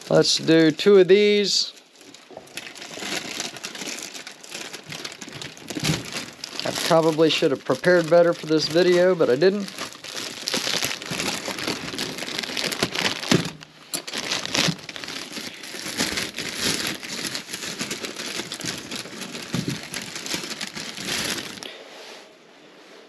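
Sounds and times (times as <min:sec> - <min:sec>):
plastic bags crinkling: 0:00.0 - 0:21.7.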